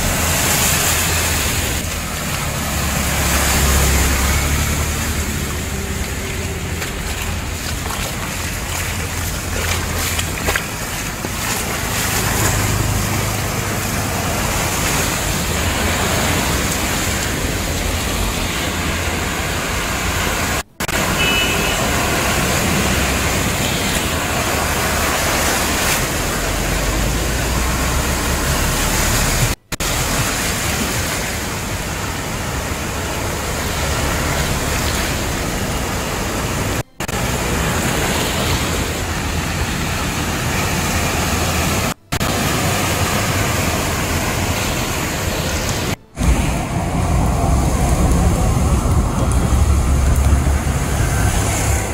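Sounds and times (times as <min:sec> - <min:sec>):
rain: 0:00.0 - 0:51.9
vehicles driving through floodwater: 0:00.0 - 0:51.9.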